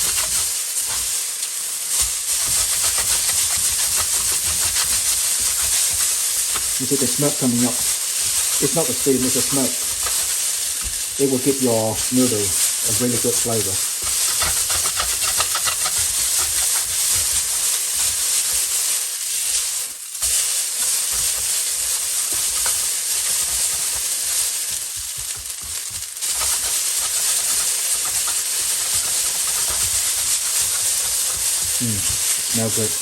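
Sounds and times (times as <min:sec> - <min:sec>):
noodles sizzling in a wok: 0:00.0 - 0:33.0.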